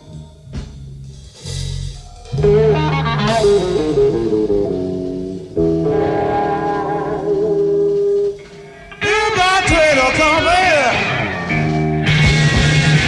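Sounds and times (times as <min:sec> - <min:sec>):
blues guitar with bent notes: 0:00.0 - 0:13.0.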